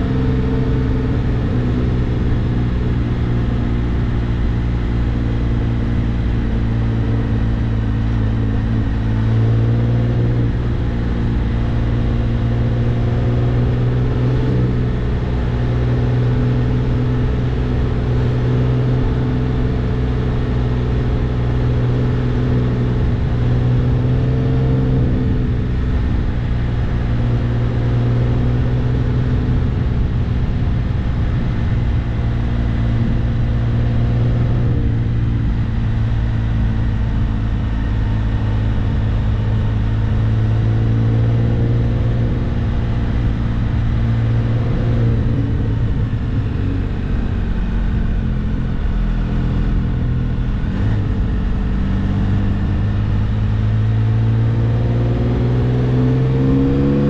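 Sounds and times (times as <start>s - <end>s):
three-wheeler engine droning: 0.0s - 57.0s.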